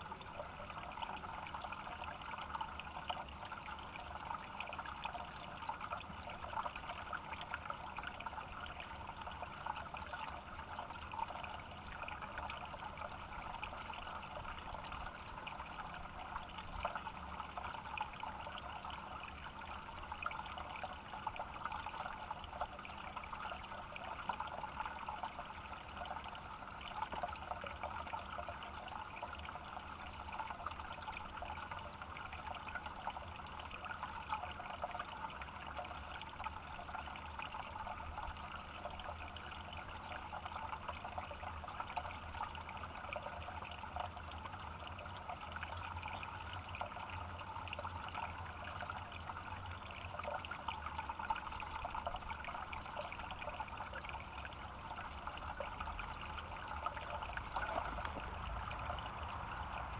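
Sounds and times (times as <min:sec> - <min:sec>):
faint low hum: 0:00.0 - 0:59.9
water trickling: 0:00.0 - 0:59.9.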